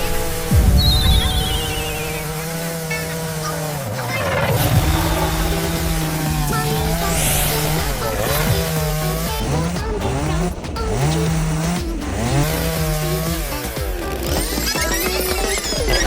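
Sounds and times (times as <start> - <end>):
background music: 0.0 - 16.0
chainsaw cutting: 0.0 - 16.0.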